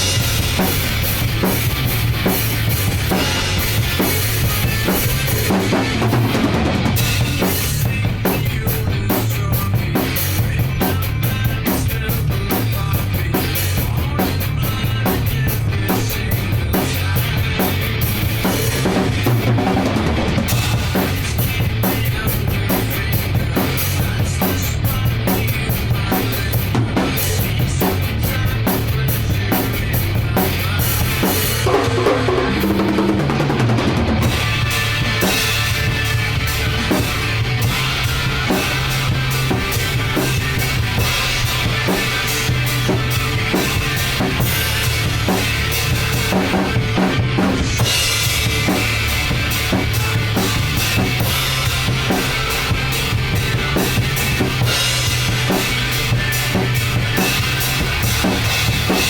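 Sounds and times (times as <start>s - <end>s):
drum kit rock beat: 0.0s - 59.0s
full-band rock song: 0.0s - 59.0s.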